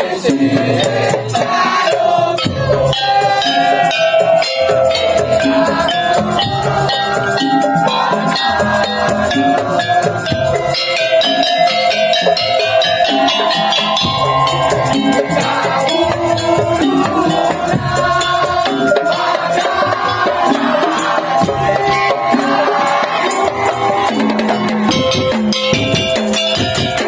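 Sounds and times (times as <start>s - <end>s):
drums: 0.0s - 27.0s
held melody line: 0.0s - 27.0s.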